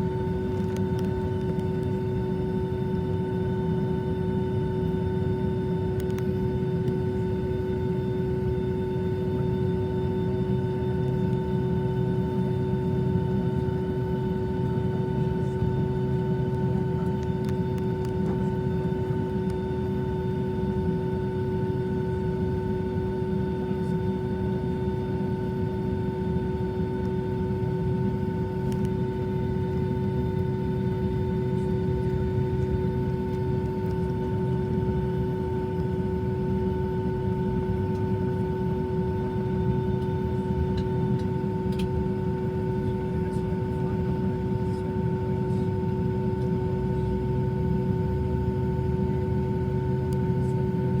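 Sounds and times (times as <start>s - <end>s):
airplane engines droning: 0.0s - 51.0s.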